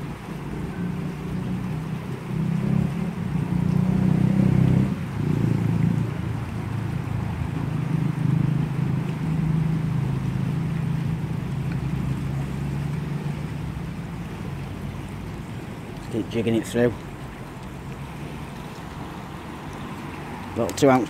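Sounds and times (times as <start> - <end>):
flowing river: 0.0 - 21.0.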